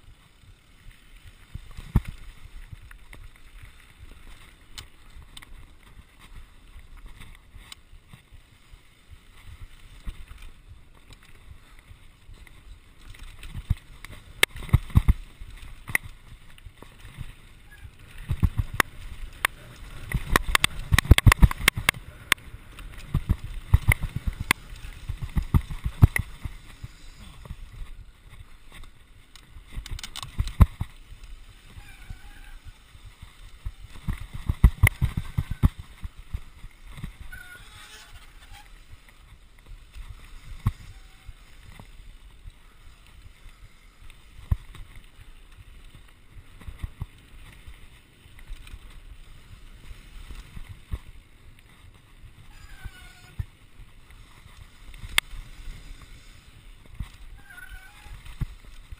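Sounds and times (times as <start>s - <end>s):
mountain bike rattling over stony trail: 0.0s - 58.9s.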